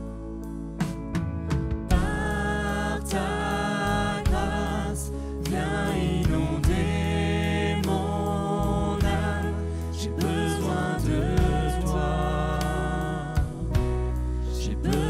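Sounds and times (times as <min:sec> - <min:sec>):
band playing slow ballad: 0:00.0 - 0:15.0
people singing: 0:01.9 - 0:15.0.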